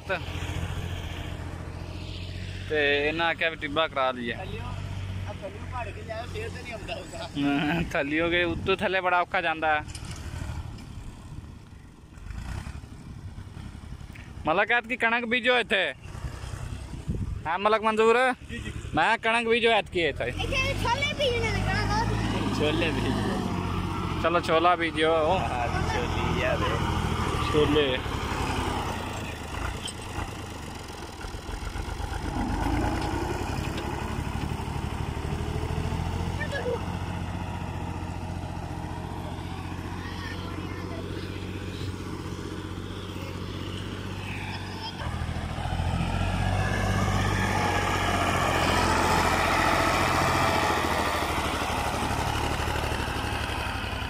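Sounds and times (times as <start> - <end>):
tractor diesel engine running: 0.0 - 15.0, 15.7 - 54.0.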